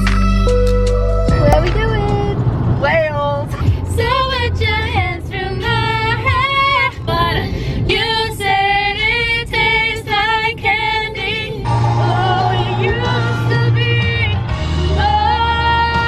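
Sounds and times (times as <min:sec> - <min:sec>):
steady bass line: 0:00.0 - 0:08.3, 0:09.0 - 0:16.0
woman singing pop song: 0:00.0 - 0:16.0.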